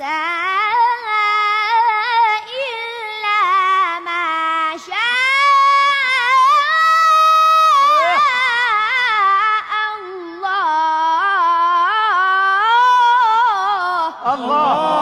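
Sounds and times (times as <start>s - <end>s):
boy reciting melodically: 0.0s - 15.0s.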